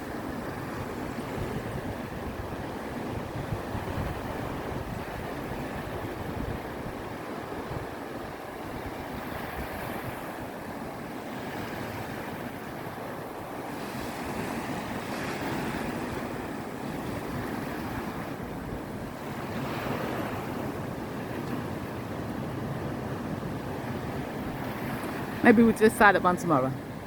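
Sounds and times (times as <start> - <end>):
wind buffeting microphone: 0.0 - 25.5
ocean surf breaking: 0.0 - 27.0.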